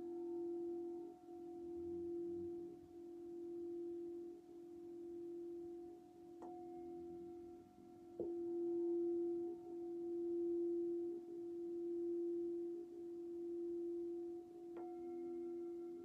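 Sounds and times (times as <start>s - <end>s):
crystal singing bowl tone: 0.0s - 16.0s.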